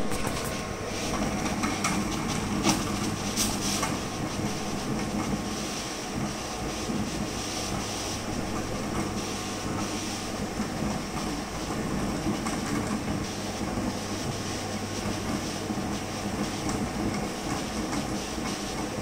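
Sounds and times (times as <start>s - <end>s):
cutting plotter motors whirring: 0.0s - 19.0s
steady low hum: 0.0s - 19.0s.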